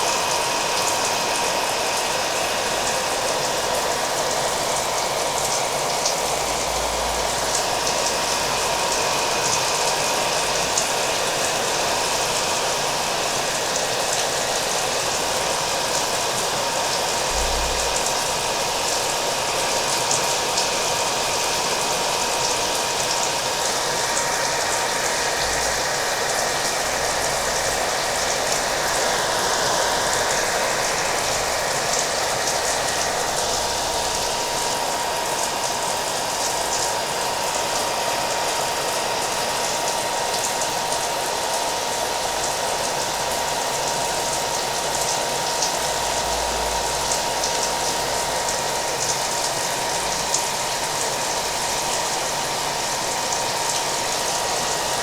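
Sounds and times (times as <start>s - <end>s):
hair dryer blowing: 0.0s - 17.3s, 18.0s - 46.3s, 46.9s - 55.0s
rain: 0.0s - 55.0s.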